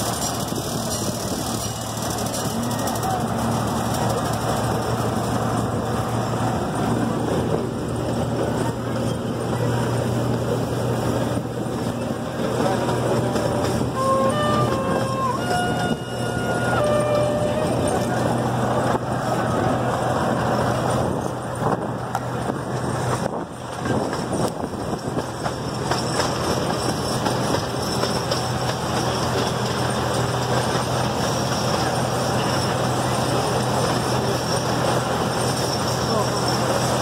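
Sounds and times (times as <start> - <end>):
miniature train engine drone: 0.0 - 37.0
rumbling wheels on track: 0.0 - 37.0.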